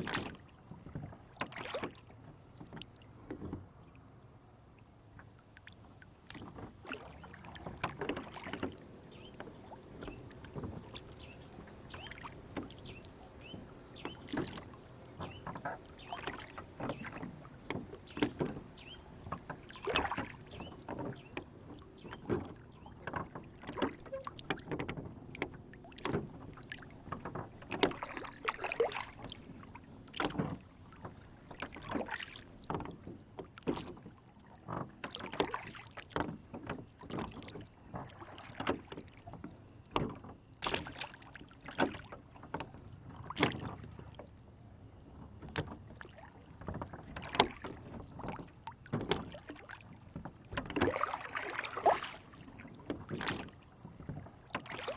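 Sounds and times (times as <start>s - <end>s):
boat knocks and splashes: 0.0s - 54.9s
water lapping against hull: 0.0s - 54.9s.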